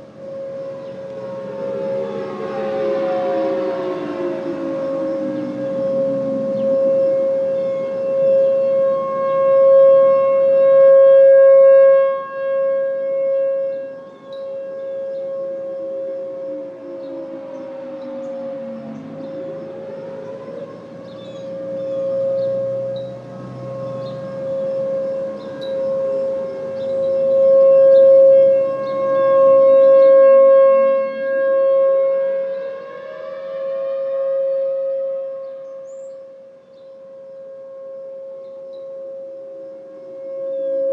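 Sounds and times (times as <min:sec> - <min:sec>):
civil defense siren steady tone: 0:00.0 - 0:40.9.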